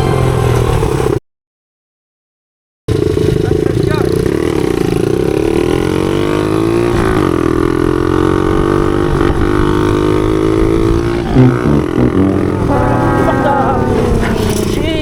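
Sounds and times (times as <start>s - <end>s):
pit bike engine revving: 2.9s - 15.0s.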